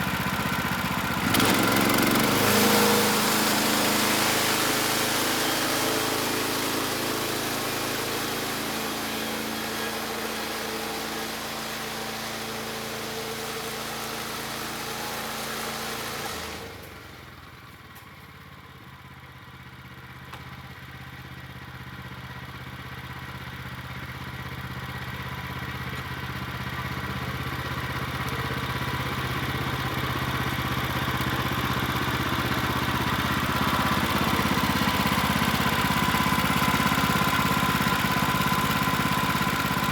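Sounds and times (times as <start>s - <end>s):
gasoline engine running: 0.0s - 18.0s, 24.5s - 39.9s.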